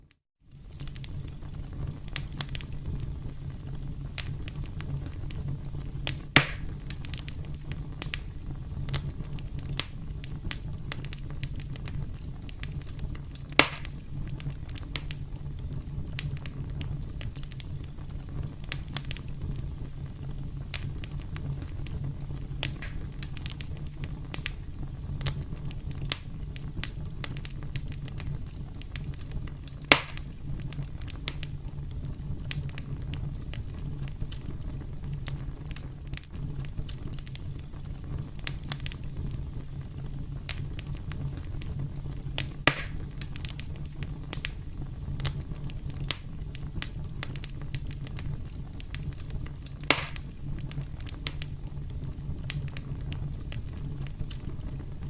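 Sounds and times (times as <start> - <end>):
campfire flames rumbling: 0.0 - 55.0
loud fire pops: 0.5 - 55.0
wood crackling: 0.5 - 55.0.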